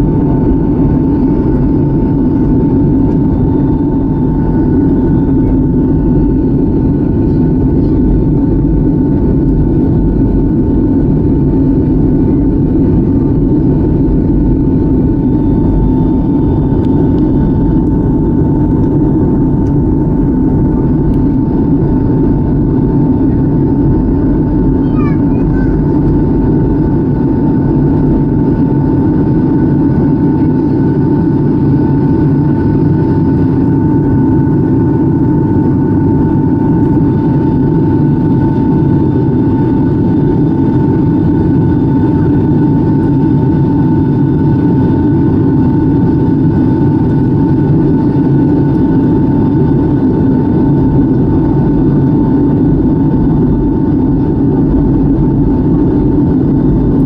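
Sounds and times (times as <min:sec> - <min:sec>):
jet engine whine: 0:00.0 - 0:57.0
jet engines droning: 0:00.0 - 0:57.0.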